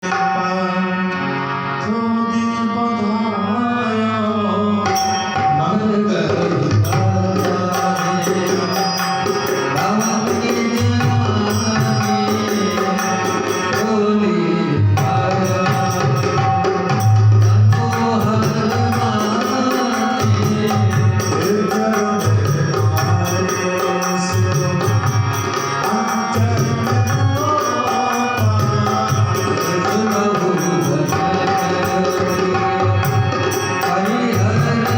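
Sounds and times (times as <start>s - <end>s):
sustained melodic accompaniment: 0.0s - 34.9s.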